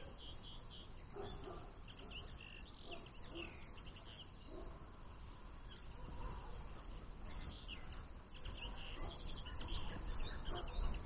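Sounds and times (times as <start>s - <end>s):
birds twittering: 0.0s - 11.0s
low steady hiss: 0.0s - 11.0s.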